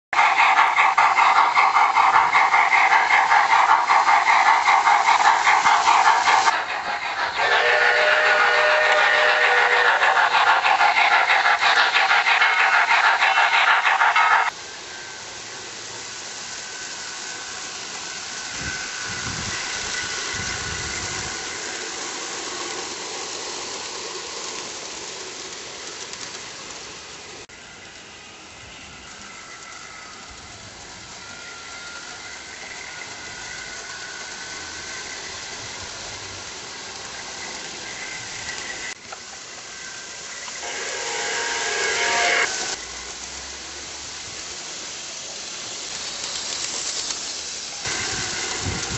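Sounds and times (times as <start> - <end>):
model trains running: 0.1 - 48.9.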